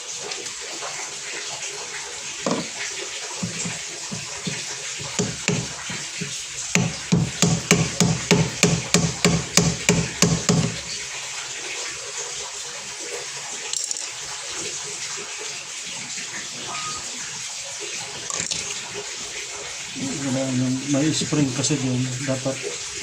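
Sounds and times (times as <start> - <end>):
running water hissing: 0.0 - 23.0.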